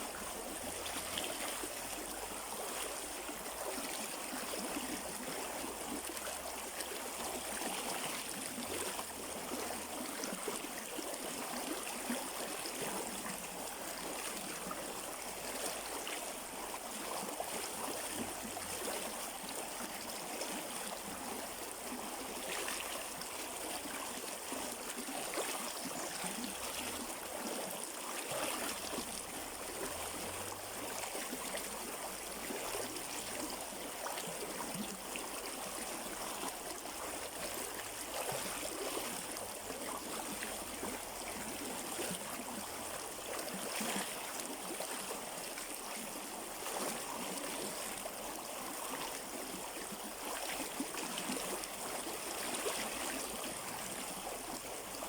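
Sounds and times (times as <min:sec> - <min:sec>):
stream water over rocks: 0:00.0 - 0:55.0.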